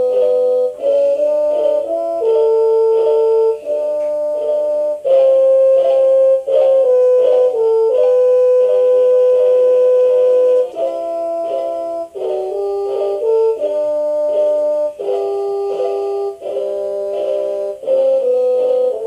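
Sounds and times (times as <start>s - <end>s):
alarm clock electronic melody: 0.0s - 19.0s.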